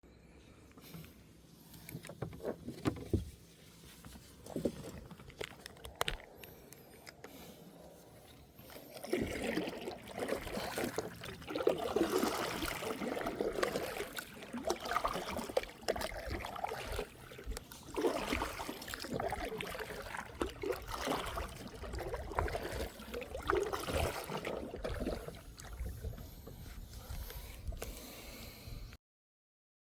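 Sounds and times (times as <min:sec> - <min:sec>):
water splashing around kayak: 0:00.9 - 0:28.9.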